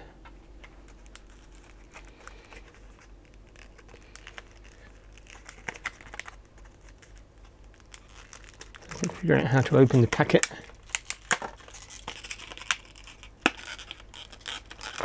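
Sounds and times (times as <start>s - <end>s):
plastic blister pack crinkling: 0.4s - 15.0s.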